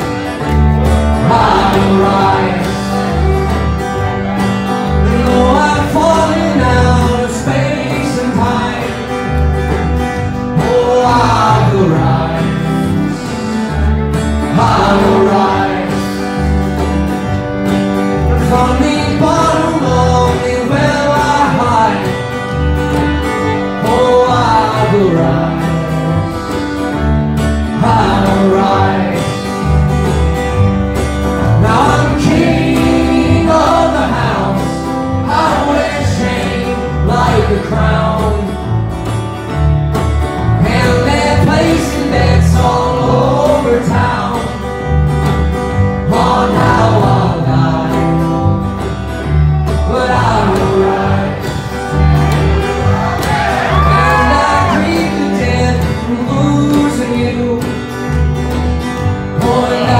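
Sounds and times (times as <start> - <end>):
strummed acoustic guitar: 0.0 - 59.9
upright bass: 0.0 - 59.9
man singing: 1.1 - 9.5, 10.4 - 16.5, 18.1 - 26.6, 27.5 - 29.7, 31.4 - 38.8, 40.4 - 44.8, 45.9 - 48.7, 49.6 - 52.8, 53.6 - 58.2, 59.2 - 59.9.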